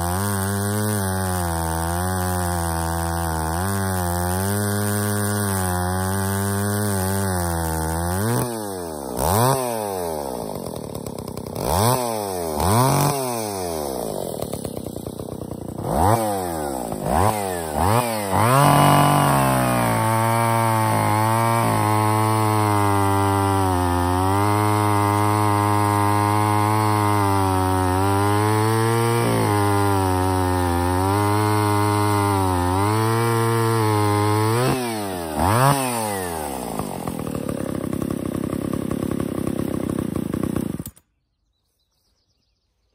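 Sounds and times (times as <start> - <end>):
chainsaw cutting through log: 0.0 - 41.0.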